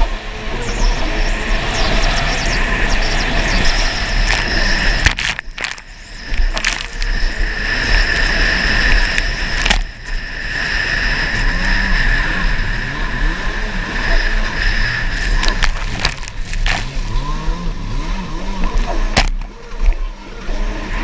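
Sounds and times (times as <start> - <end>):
jet ski engine running hard: 0.0 - 21.0.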